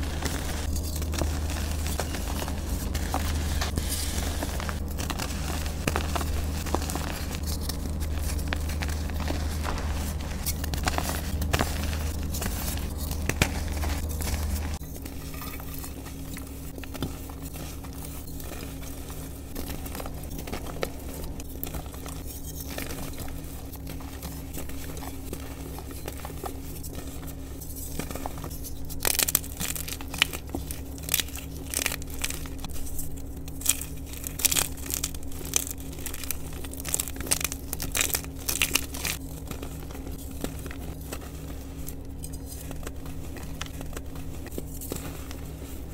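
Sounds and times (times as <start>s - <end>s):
fingers crushing chalk: 0.0s - 45.9s
low hum: 0.0s - 45.9s.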